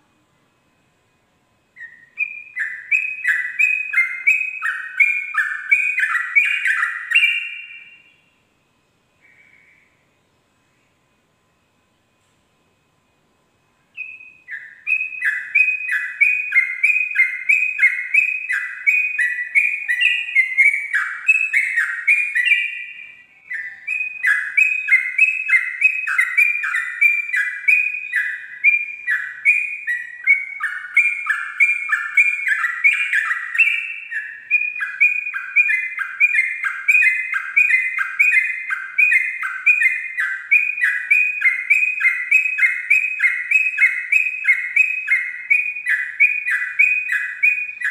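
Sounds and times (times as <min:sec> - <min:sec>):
bulbul singing whistled notes: 0:01.7 - 0:08.4, 0:13.9 - 0:47.9.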